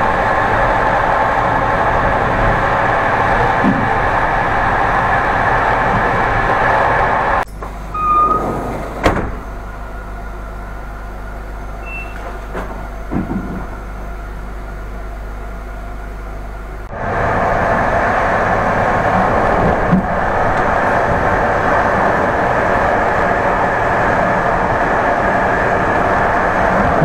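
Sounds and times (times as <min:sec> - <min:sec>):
low hum of standing train: 0:00.0 - 0:27.0
moving train running noise: 0:00.0 - 0:27.0.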